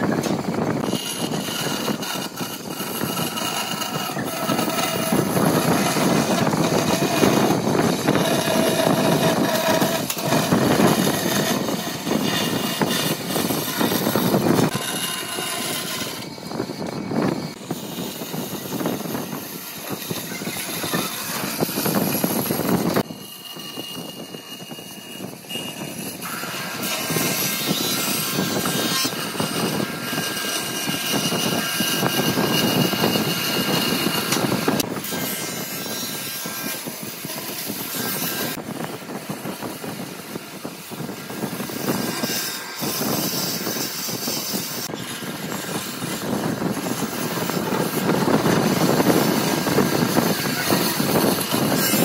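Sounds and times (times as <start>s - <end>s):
bandsaw cutting wood: 0.0s - 52.0s.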